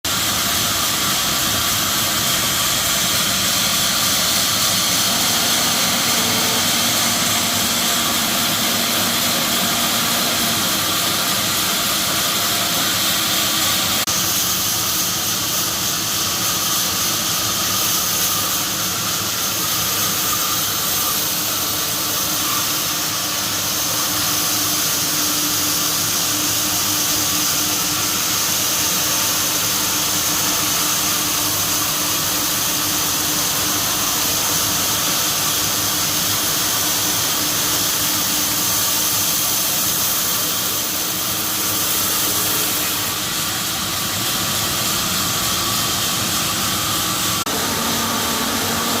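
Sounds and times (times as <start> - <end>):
power tool running with loud hiss: 0.1 - 49.0.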